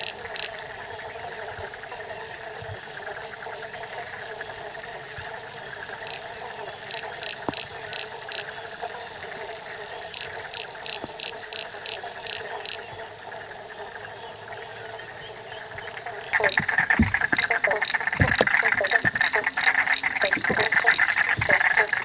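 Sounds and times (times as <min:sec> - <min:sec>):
frog chorus: 0:00.0 - 0:22.0
light rain on water: 0:00.0 - 0:22.0.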